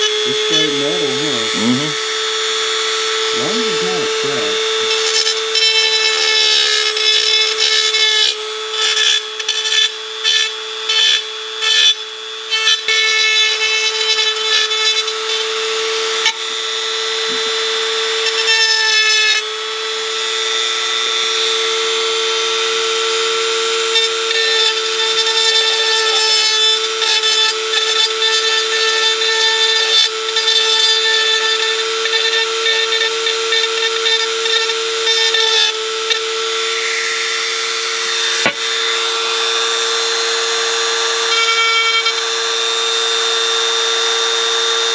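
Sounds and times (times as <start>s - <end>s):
rotary grinder grinding metal: 0.0s - 44.9s.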